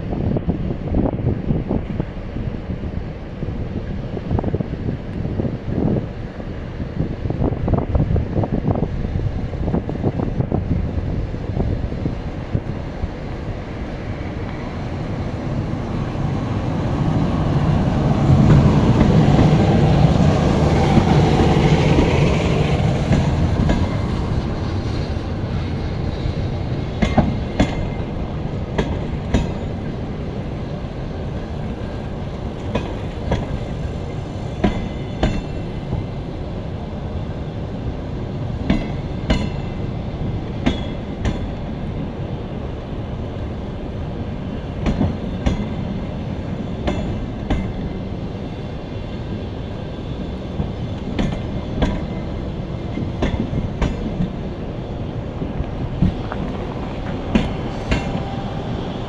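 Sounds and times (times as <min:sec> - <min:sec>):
electric locomotive passing: 0:00.0 - 0:59.0.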